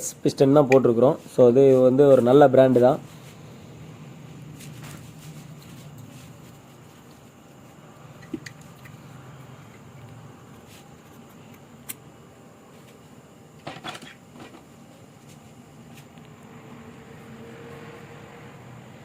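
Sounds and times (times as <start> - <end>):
low steady hum: 3.0 - 19.0.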